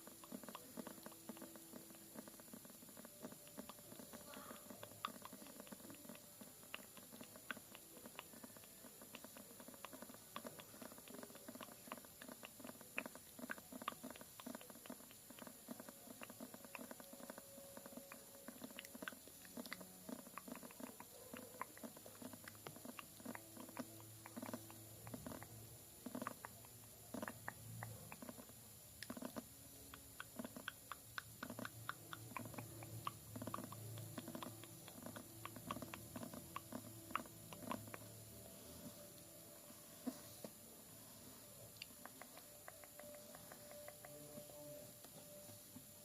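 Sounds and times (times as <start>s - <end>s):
light tapping and clicks: 0.0s - 40.6s, 41.7s - 45.9s.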